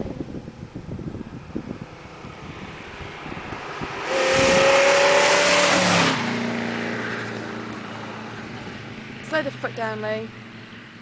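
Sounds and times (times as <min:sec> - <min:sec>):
car engine passing at full throttle: 0:00.0 - 0:11.0.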